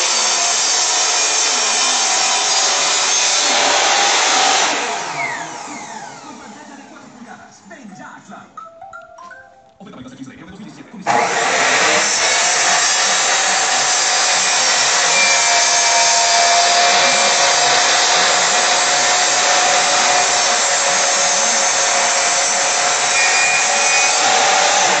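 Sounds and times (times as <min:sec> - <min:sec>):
miter saw cutting wood: 0:00.0 - 0:07.4, 0:11.1 - 0:25.0.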